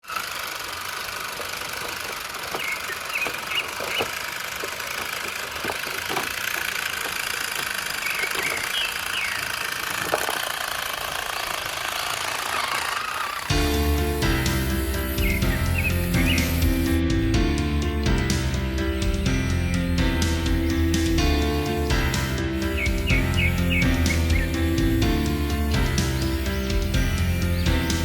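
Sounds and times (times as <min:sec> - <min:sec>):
toy truck motor whine: 0:00.0 - 0:28.0.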